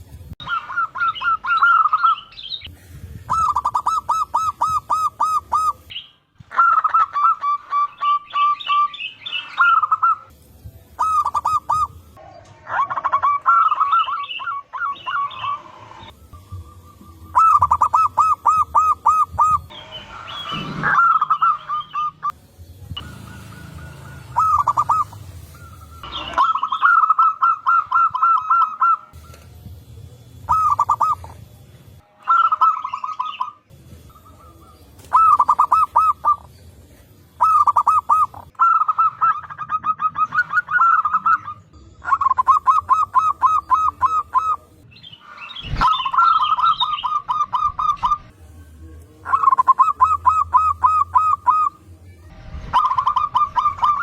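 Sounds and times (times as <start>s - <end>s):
doves cooing: 0.4s - 10.3s, 10.9s - 22.4s, 23.0s - 29.5s, 30.4s - 31.4s, 32.3s - 36.6s, 37.3s - 44.8s, 49.2s - 51.9s, 52.6s - 54.0s.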